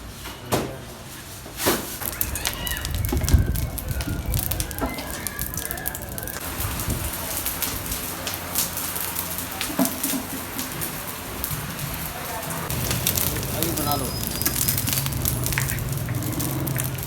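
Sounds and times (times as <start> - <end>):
cooking sizzling and crackling: 2.0 - 17.0.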